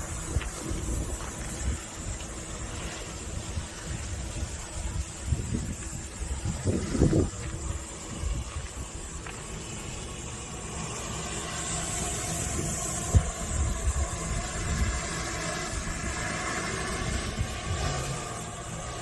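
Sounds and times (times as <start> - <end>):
drone propellers running: 0.0 - 19.0
wind buffeting microphone: 0.0 - 19.0.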